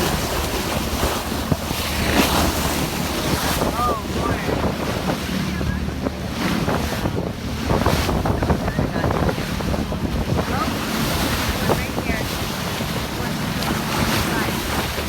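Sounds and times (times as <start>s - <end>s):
ocean waves washing in: 0.0s - 15.0s
wind buffeting microphone: 0.0s - 15.0s.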